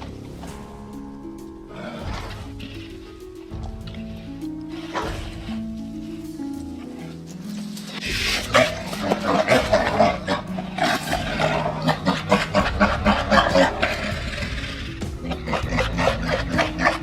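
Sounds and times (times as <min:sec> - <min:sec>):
animals fighting: 0:00.0 - 0:17.0.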